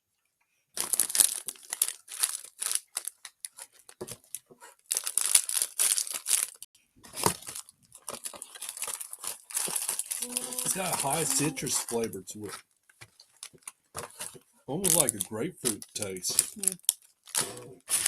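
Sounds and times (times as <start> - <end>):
plastic packaging crinkling: 0.8 - 12.1, 12.9 - 18.0.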